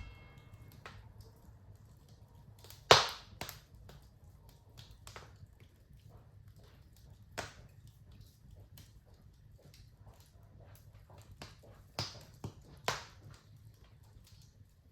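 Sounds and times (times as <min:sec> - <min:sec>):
fireplace fire crackling: 0:00.0 - 0:14.9.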